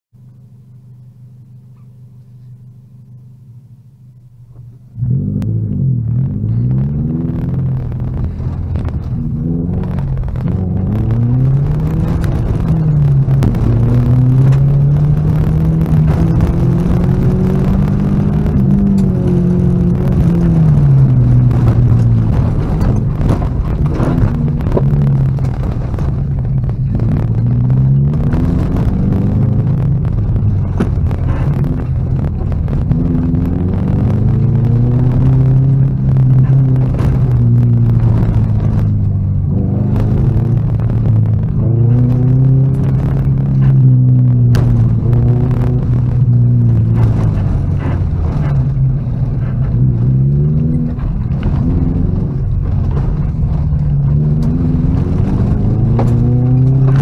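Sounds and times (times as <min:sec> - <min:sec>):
car engine revving: 0:00.2 - 0:57.0.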